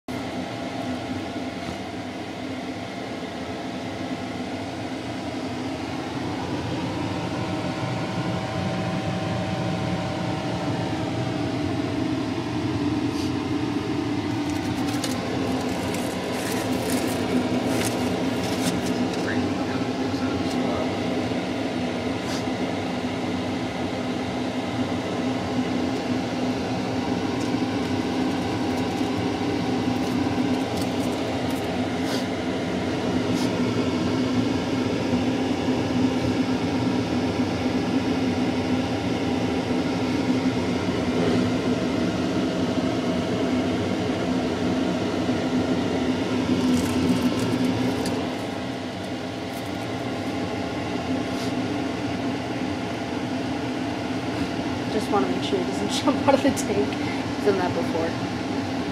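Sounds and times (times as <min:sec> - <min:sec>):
fan-like machine hum: 0:00.1 - 0:58.9.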